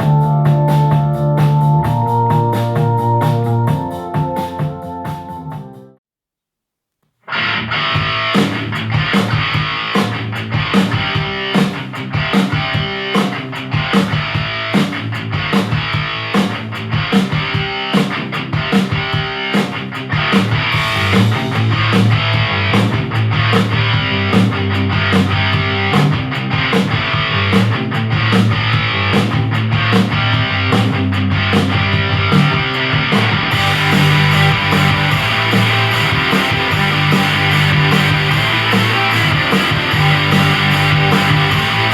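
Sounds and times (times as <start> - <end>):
rock song with electric guitar: 7.3 - 41.9.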